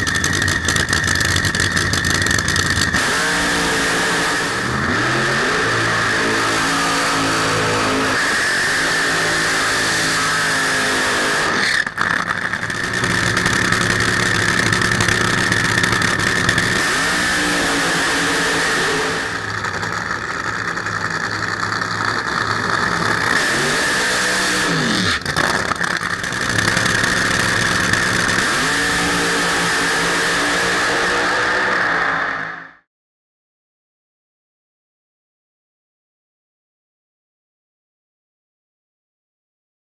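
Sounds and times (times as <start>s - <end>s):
loud racing engines revving: 0.0s - 32.8s.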